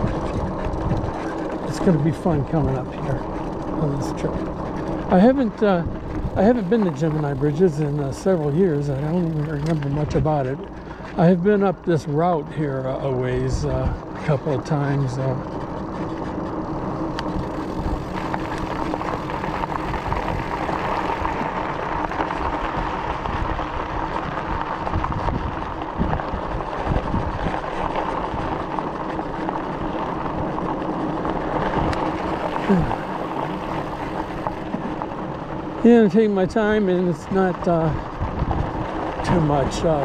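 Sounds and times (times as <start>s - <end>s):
tyre noise on smooth road: 0.0s - 40.0s
wind buffeting microphone: 0.0s - 40.0s.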